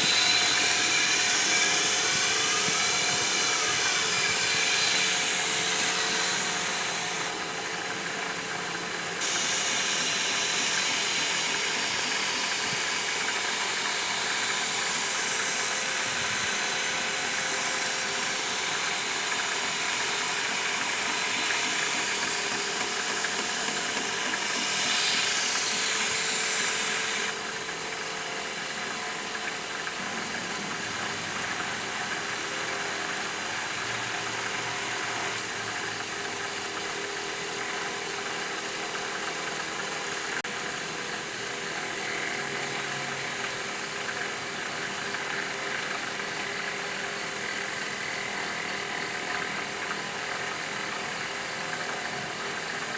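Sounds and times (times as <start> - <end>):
power tool high whir: 0.0 - 52.9.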